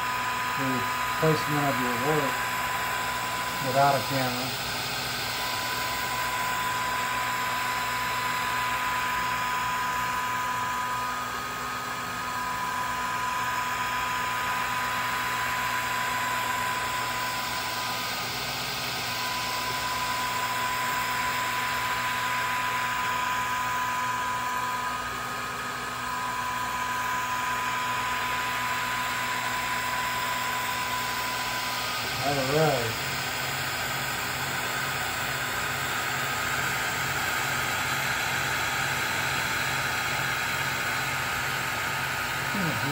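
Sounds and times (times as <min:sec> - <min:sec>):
high motor whine: 0:00.0 - 0:42.9.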